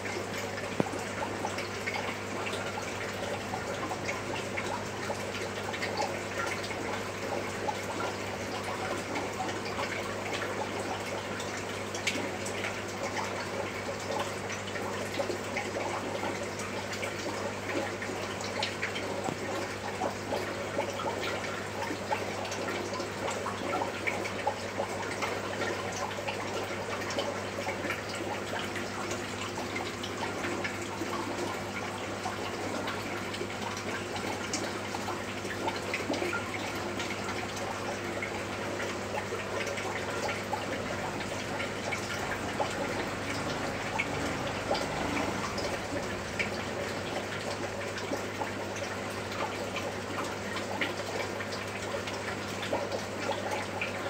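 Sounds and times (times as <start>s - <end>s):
aquarium water trickling and bubbling: 0.0s - 54.0s
water drips and splashes: 0.0s - 54.0s.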